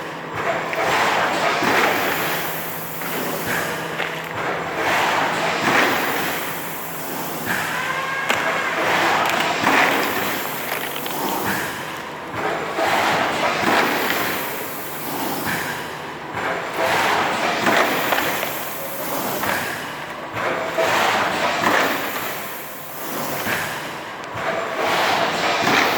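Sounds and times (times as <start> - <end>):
thermoforming machine running: 0.0 - 25.9.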